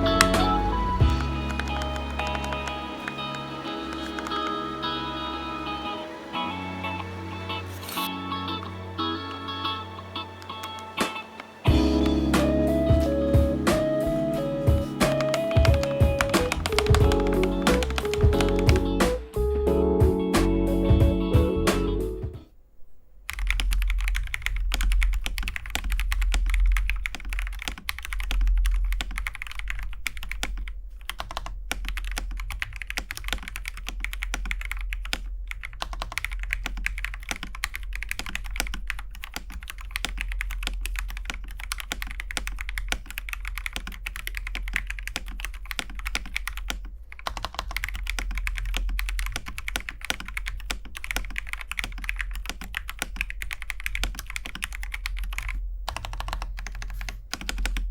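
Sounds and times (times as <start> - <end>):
fast mechanical keyboard typing: 0.0 - 4.9, 11.4 - 19.0, 23.3 - 57.9.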